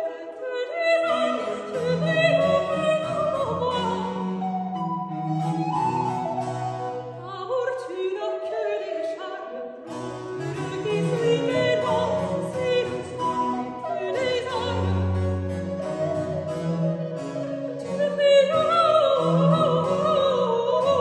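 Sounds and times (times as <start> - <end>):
woman singing aria: 0.0 - 4.8, 7.2 - 16.5, 17.1 - 21.0
cello: 0.0 - 21.0
flute: 0.0 - 21.0.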